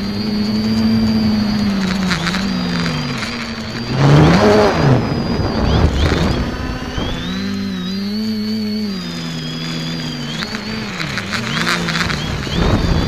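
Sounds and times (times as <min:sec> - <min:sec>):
quadcopter motors droning: 0:00.0 - 0:13.0
thin high whine: 0:00.0 - 0:13.0.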